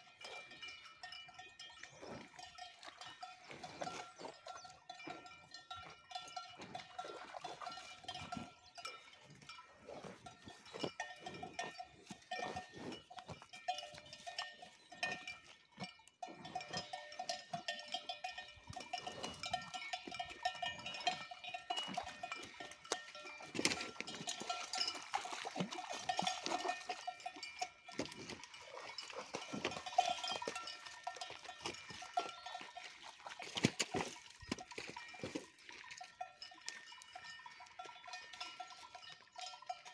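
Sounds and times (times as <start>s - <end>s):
cow bells clanking: 0.0s - 39.9s.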